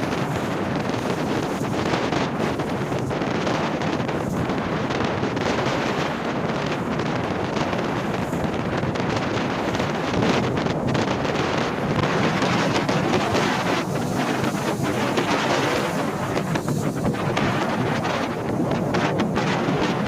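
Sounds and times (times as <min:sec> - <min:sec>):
rough sea waves: 0:00.0 - 0:20.0
wind buffeting microphone: 0:00.0 - 0:20.0.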